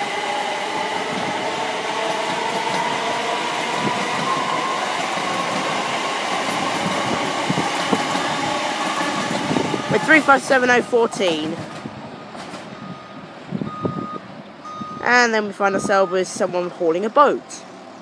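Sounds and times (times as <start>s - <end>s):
train wheel and rail noise: 0.0s - 18.0s.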